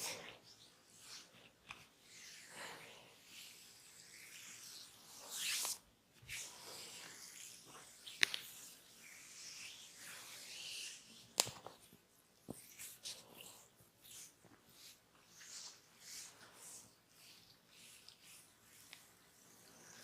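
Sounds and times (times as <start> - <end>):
rubbing and scratching on head: 3.3 - 20.0.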